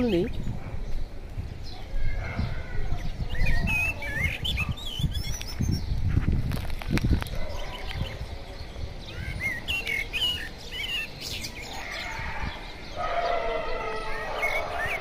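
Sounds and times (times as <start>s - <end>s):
small birds warbling chirps: 0.0s - 15.0s.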